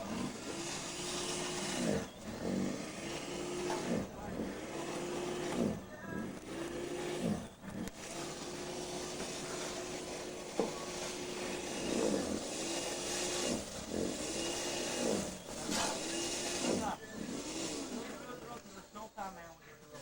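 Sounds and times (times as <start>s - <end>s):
snow blower engine running: 0.0s - 19.1s.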